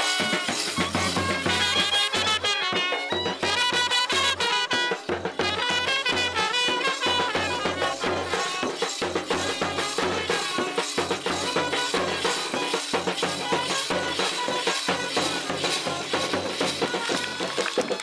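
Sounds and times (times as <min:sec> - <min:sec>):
brass band melody: 0:00.0 - 0:17.6
drums and rattling percussion: 0:00.0 - 0:18.0.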